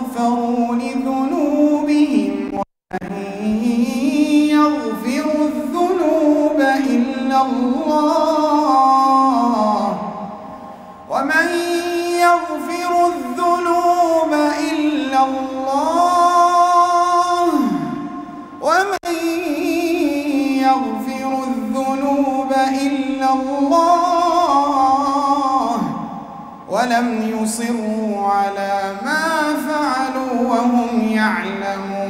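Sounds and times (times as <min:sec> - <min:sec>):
man reciting melodically over loudspeakers: 0:00.0 - 0:32.0.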